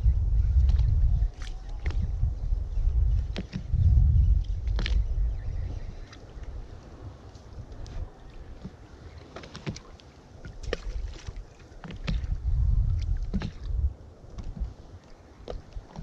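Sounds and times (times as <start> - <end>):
wind rumbling on microphone: 0.0 - 16.0
water slapping boat hull: 0.4 - 16.0.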